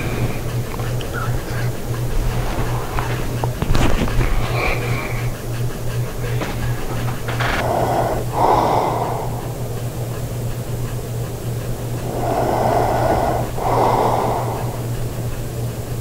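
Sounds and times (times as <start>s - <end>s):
man breathing heavily: 0.0s - 16.0s.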